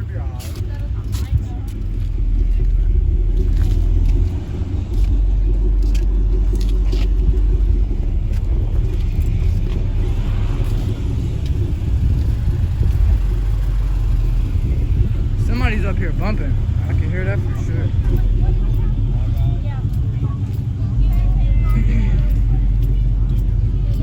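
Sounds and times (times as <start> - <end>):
heavy bass from car stereo: 0.0 - 24.0.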